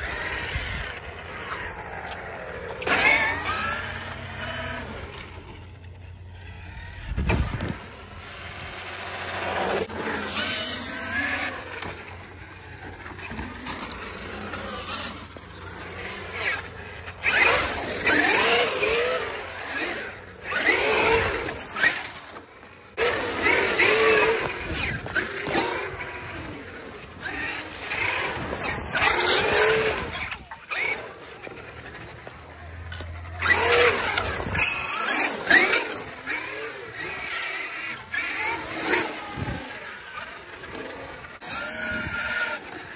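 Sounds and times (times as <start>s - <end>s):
electric motor whining: 0.0s - 42.9s.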